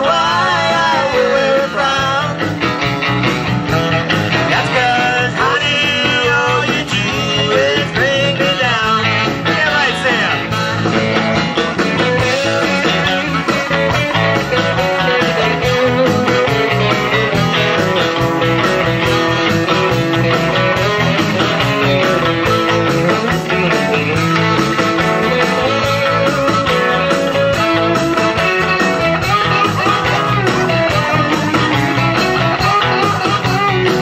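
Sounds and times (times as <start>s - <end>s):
electric guitar: 0.0s - 34.0s
live rock band playing: 0.0s - 34.0s.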